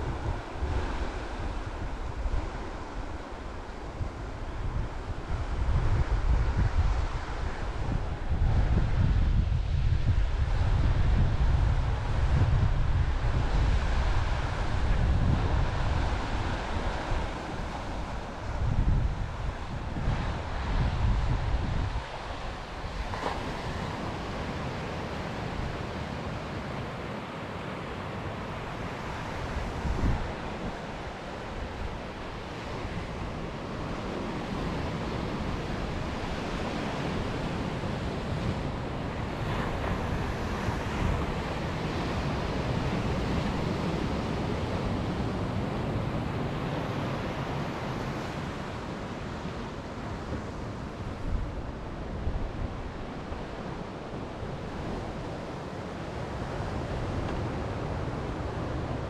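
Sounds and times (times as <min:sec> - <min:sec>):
surf washing over rocks: 0:00.0 - 0:59.0
wind on microphone: 0:00.0 - 0:59.0.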